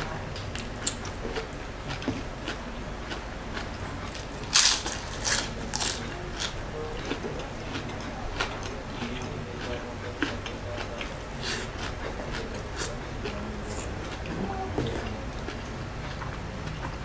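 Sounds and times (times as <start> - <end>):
crunching of fried food: 0.4 - 14.3.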